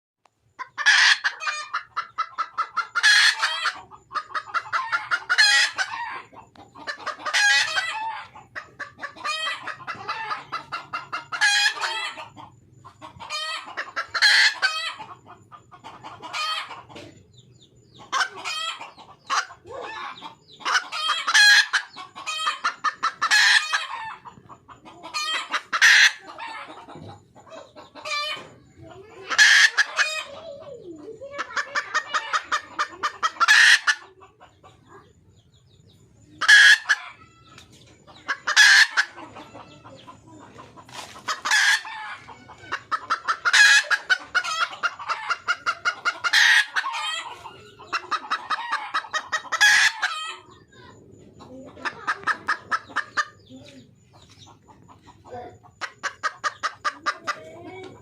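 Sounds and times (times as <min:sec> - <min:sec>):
hen clucking calls: 0:00.4 - 0:58.0.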